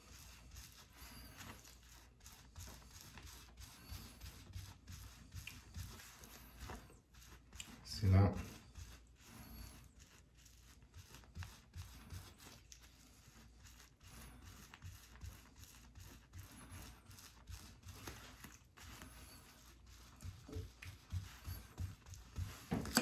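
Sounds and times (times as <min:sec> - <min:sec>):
cloth rubbing and scraping: 0:00.0 - 0:23.0.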